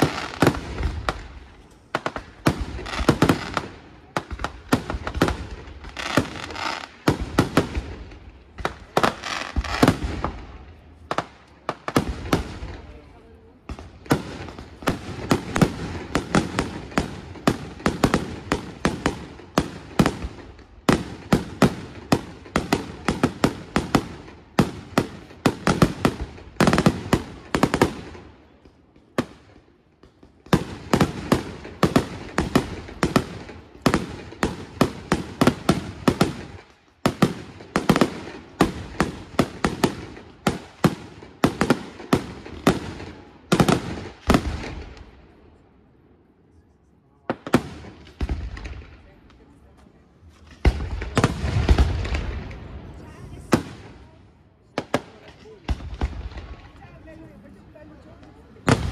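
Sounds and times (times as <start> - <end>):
fireworks bursting: 0.0 - 45.5, 47.2 - 58.9.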